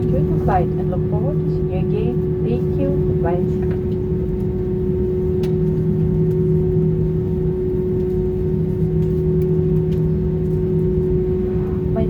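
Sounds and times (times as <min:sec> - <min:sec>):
constant hum: 0:00.0 - 0:12.0
engine and air conditioning drone: 0:00.0 - 0:12.0.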